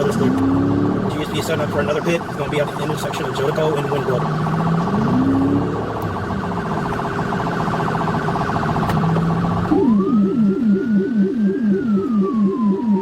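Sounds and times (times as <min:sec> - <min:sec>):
police siren yelp: 0:00.0 - 0:13.0
siren wail: 0:00.0 - 0:13.0.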